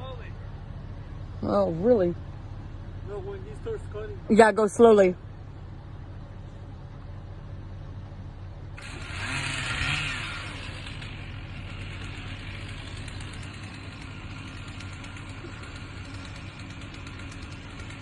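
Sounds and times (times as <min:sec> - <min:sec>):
vehicle engine under load: 0:00.0 - 0:18.0.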